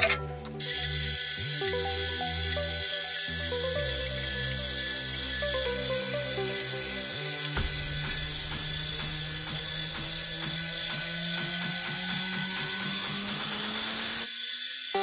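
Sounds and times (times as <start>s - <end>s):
roller bender motor humming: 0.6s - 14.2s.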